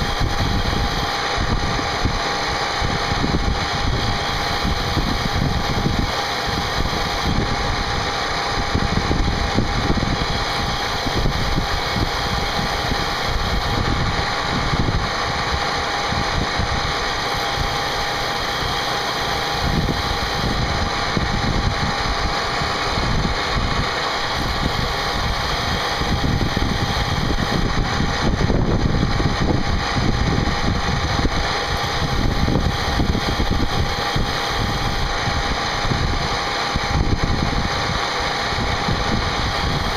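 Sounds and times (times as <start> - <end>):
cnc spindle whine: 0.0 - 39.9
cutter rumbling: 0.0 - 39.9.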